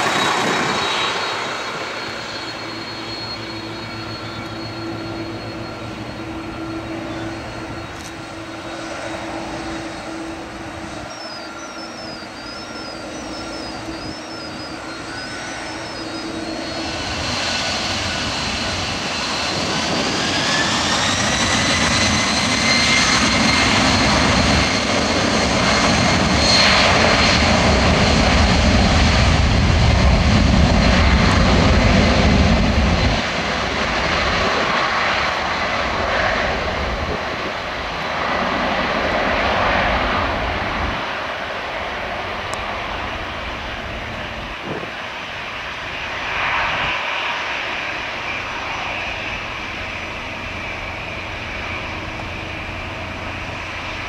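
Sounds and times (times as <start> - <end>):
jet engines whining: 0.0 - 54.0
jet takeoff rumble: 0.0 - 54.0.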